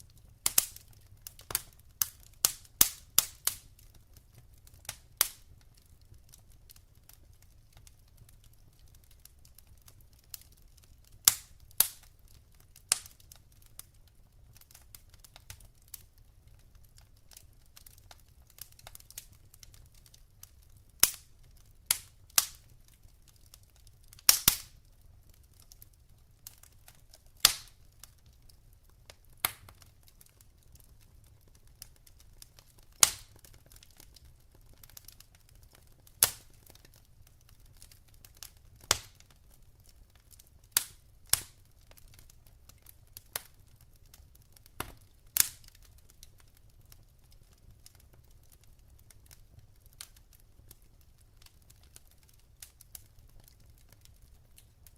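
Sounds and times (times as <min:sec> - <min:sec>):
low rumble of flames: 0:00.0 - 0:54.9
wood fire crackling and popping: 0:00.0 - 0:54.9.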